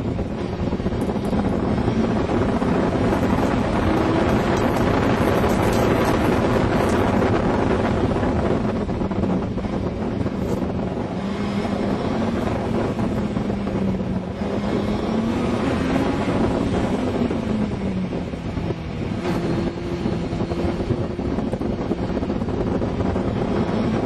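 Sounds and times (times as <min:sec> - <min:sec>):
sports car engine running: 0:00.0 - 0:24.0
wind buffeting on microphone: 0:00.0 - 0:24.0.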